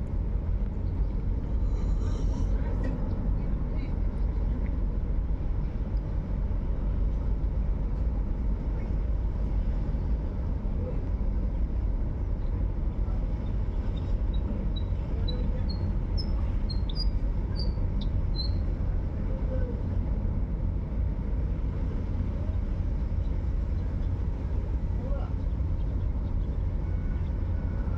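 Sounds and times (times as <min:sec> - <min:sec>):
low engine rumble: 0:00.0 - 0:27.9.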